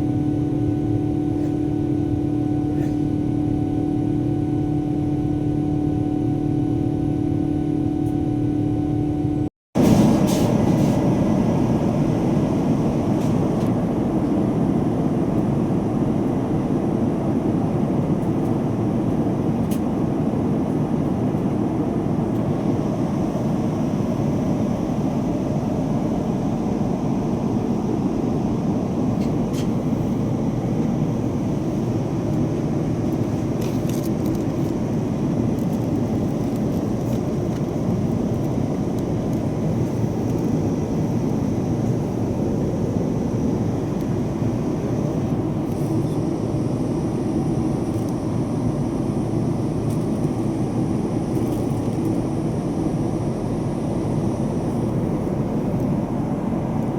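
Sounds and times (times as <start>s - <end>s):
jet cabin rushing hum: 0.0s - 56.9s.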